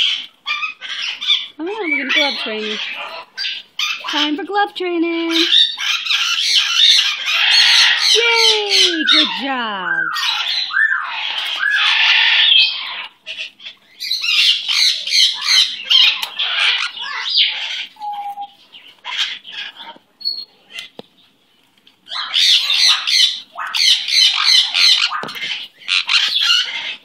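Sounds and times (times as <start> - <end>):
parrots squawking: 0.0 - 21.0, 22.0 - 27.0.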